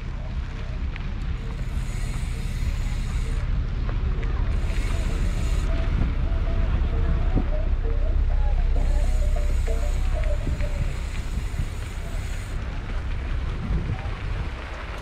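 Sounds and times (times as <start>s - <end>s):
motorcycle engine rumble: 0.0s - 15.0s
wind noise on microphone: 0.0s - 15.0s.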